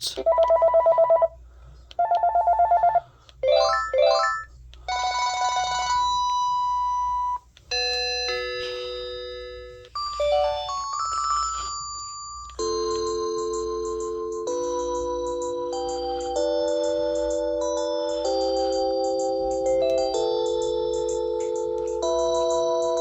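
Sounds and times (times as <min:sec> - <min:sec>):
cordless phone ringtones: 0:02.0 - 0:23.0.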